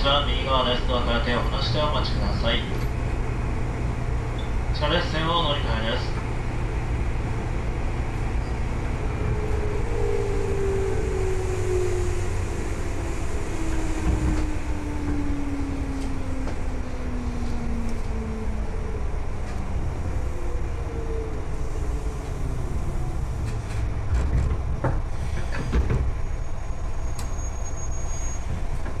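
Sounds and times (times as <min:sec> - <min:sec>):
wheels rumbling on rail: 0:00.0 - 0:29.0.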